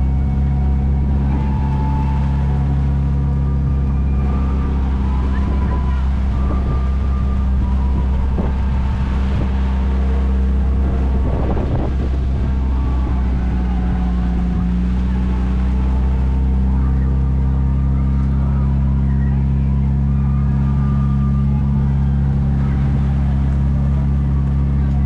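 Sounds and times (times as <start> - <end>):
cab engine low drone: 0.0 - 25.0.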